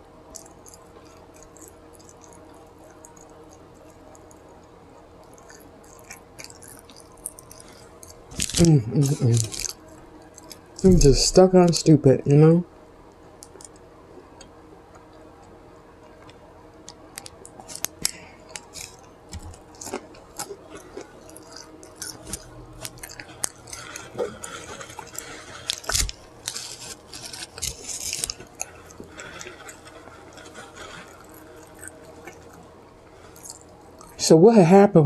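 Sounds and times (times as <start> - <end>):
person chewing food: 0.3 - 11.3, 13.4 - 34.2.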